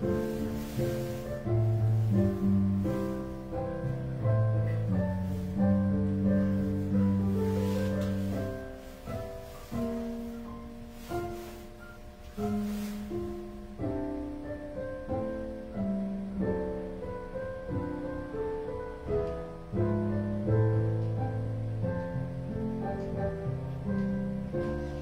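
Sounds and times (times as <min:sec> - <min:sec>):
piano playing chords: 0:00.0 - 0:25.0.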